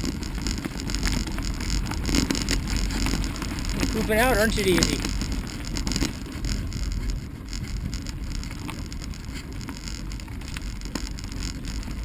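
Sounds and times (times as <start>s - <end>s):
bicycle tyres on dirt trail: 0.0s - 12.0s
bike clicks and rattles: 0.0s - 12.0s
wind buffeting microphone: 0.0s - 12.0s.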